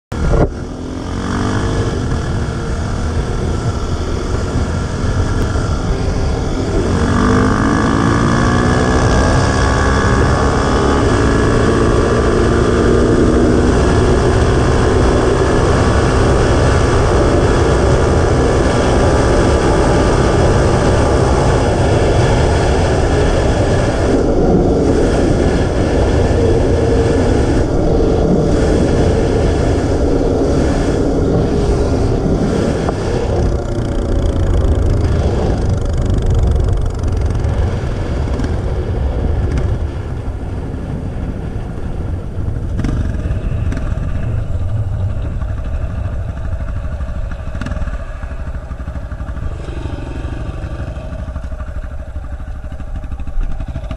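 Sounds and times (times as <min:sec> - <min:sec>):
quad engine accelerating: 0:00.1 - 0:53.9
wind noise on microphone: 0:00.1 - 0:53.9.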